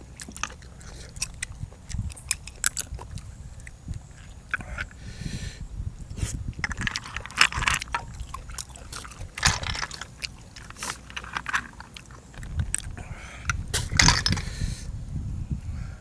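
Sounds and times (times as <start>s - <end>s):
person chewing crunchy food: 0.0s - 5.1s, 6.1s - 14.6s.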